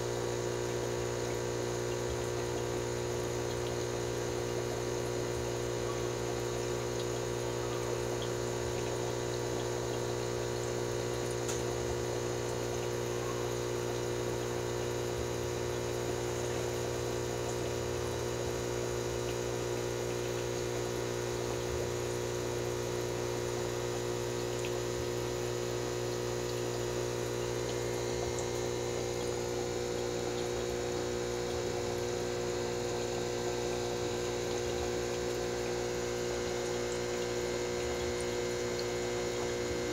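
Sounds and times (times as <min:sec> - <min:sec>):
aquarium filter pump humming: 0:00.0 - 0:39.9.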